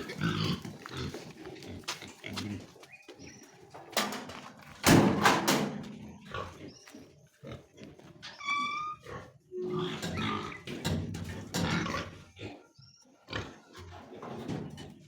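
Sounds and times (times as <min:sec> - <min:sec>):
pigs grunting and squealing: 0:00.0 - 0:04.0, 0:04.8 - 0:15.0.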